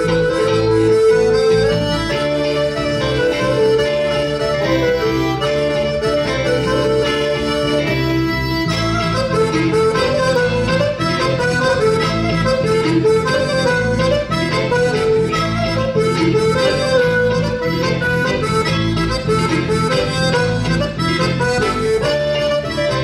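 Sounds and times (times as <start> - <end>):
accordion dance tune: 0.0 - 23.0.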